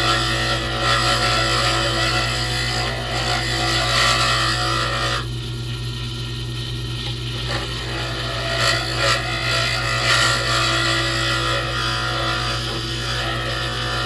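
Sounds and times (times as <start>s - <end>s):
turning tool scraping wood: 0.0s - 5.3s, 7.3s - 14.0s
lathe motor humming: 0.0s - 14.0s.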